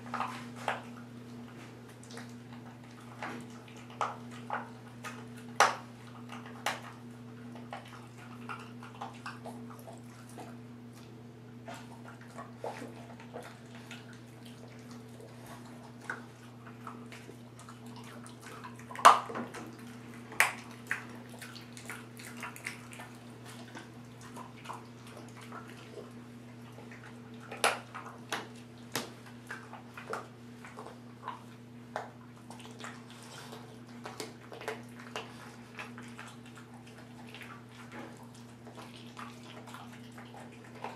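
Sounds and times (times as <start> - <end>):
dog crunching bones: 0.0 - 40.9.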